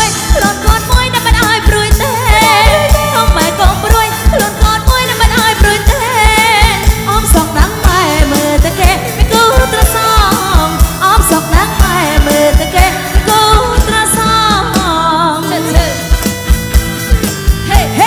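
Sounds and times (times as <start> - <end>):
woman singing with vibrato: 0.0 - 16.2, 17.6 - 18.0
drum kit beat: 0.0 - 18.0
electric bass: 0.0 - 18.0.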